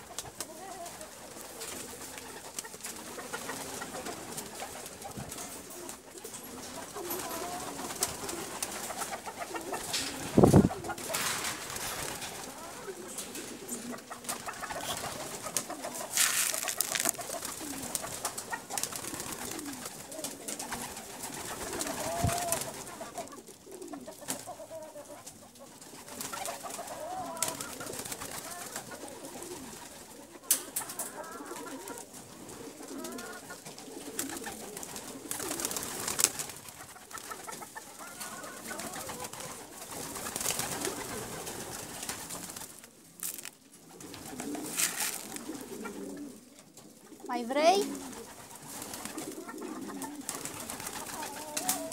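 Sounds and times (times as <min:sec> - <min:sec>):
wing flaps rustling: 0:00.0 - 0:23.1, 0:25.3 - 0:30.8, 0:31.5 - 0:37.7, 0:38.5 - 0:46.5, 0:47.3 - 0:51.9
pigeons cooing: 0:00.0 - 0:51.9.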